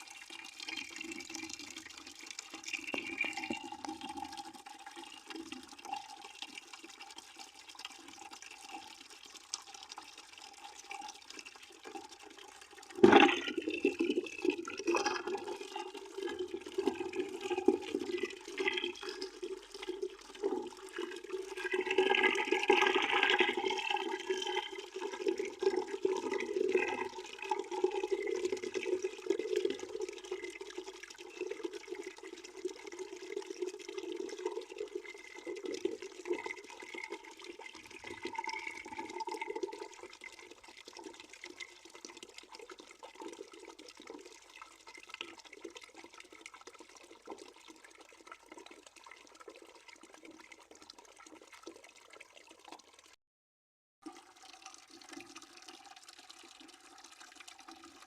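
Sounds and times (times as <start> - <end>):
water pouring into a bucket: 0.0 - 53.2, 54.0 - 58.0.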